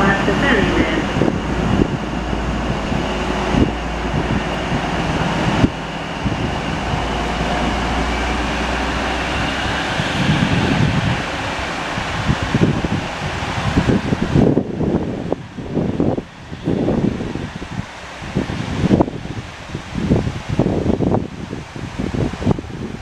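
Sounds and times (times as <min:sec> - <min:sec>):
diesel train engine whine: 0:00.0 - 0:23.0.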